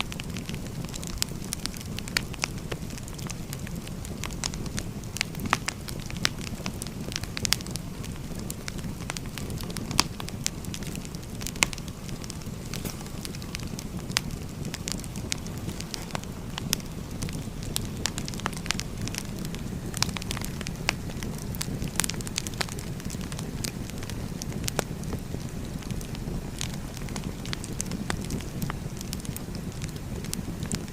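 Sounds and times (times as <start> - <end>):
burning logs crackling and popping: 0.0 - 30.9
low rumble of fire: 0.0 - 30.9.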